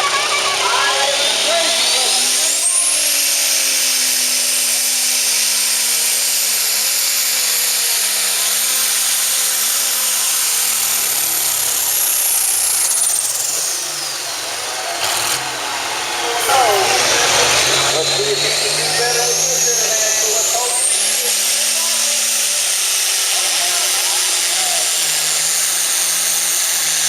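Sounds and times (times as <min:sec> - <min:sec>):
diesel tractor engine under load: 0:00.0 - 0:27.0.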